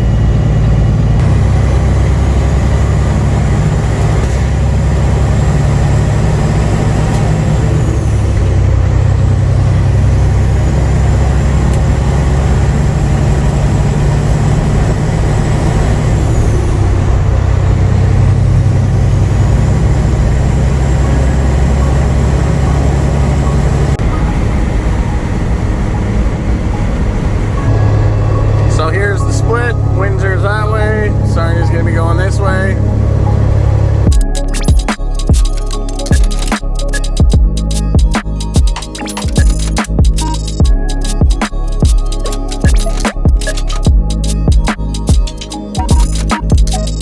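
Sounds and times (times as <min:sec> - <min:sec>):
diesel truck engine shifting gears: 0:00.0 - 0:47.0.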